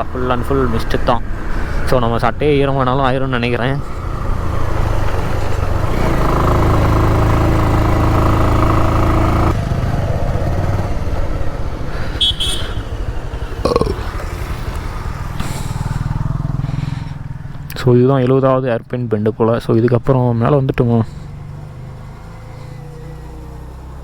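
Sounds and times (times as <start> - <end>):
motorcycle engine pulling uphill: 0.0 - 18.6, 19.7 - 24.0.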